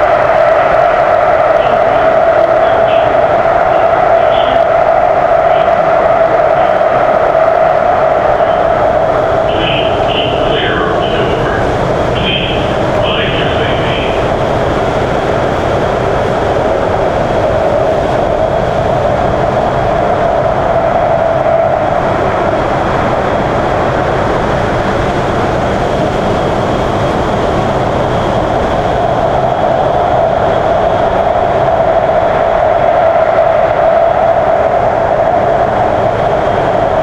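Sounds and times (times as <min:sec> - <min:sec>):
steady hum: 0:00.0 - 0:36.2
train rolling drone: 0:00.0 - 0:37.0.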